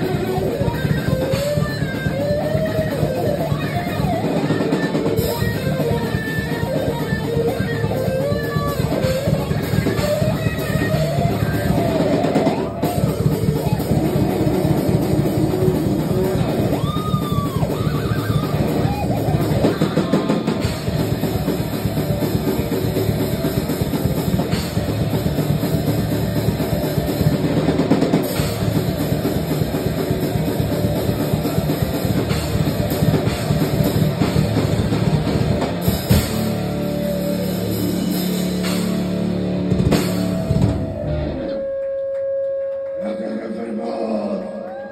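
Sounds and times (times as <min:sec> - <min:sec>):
pounding drum kit: 0:00.0 - 0:41.5
heavy metal band playing: 0:00.0 - 0:41.9.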